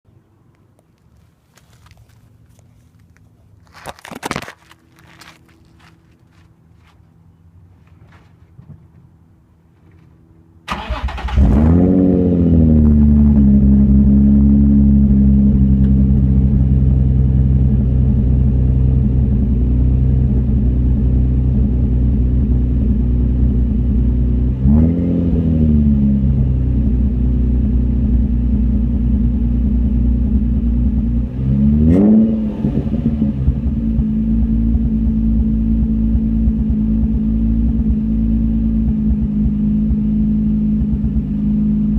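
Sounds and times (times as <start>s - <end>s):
car engine starting and idling: 4.6s - 41.9s.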